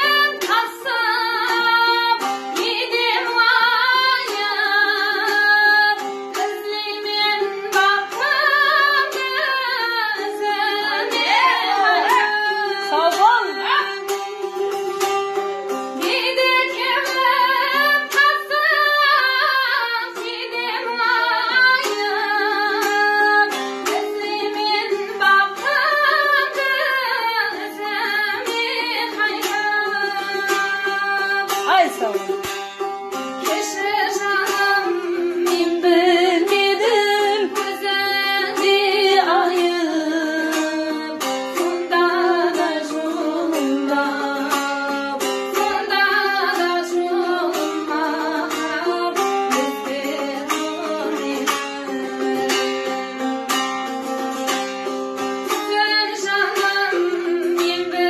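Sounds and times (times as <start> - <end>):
woman singing: 0.0 - 32.5, 33.4 - 54.4, 55.2 - 58.0
plucked lute strings: 0.0 - 58.0.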